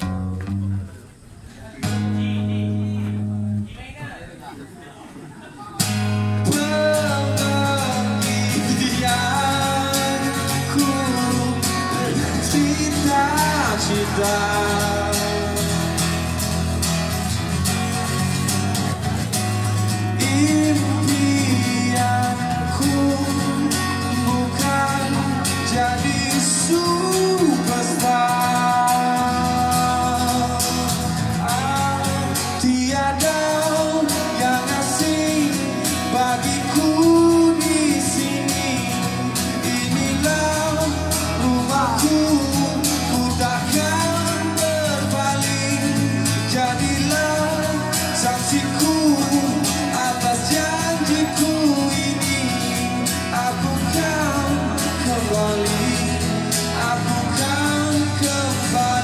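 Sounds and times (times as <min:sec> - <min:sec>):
acoustic guitar strumming: 0:00.0 - 0:03.9, 0:05.8 - 0:59.0
man singing: 0:05.8 - 0:17.7, 0:18.4 - 0:59.0.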